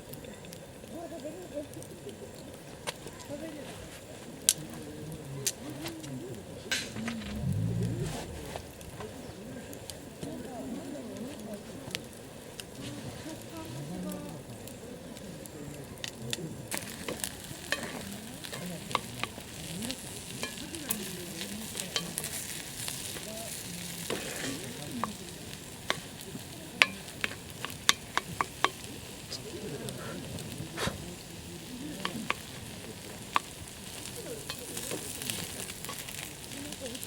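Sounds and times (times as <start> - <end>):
campfire pops and crackles: 0.0 - 37.0
food sizzling in a skillet: 0.0 - 37.0.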